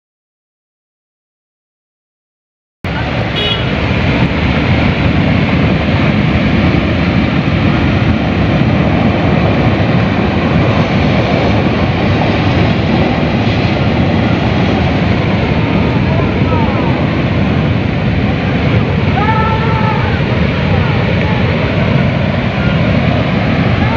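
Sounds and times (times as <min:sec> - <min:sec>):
floodwater rushing: 0:02.9 - 0:23.9.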